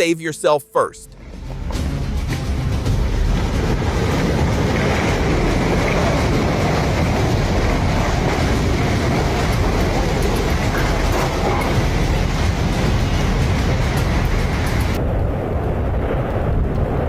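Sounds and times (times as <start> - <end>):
landslide rumbling roar: 1.2 - 17.0.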